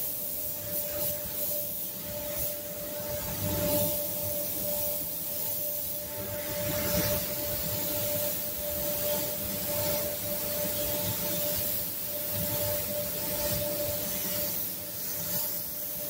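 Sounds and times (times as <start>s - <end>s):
spray gun air hiss: 0.0s - 16.0s
steady hum: 0.0s - 16.0s.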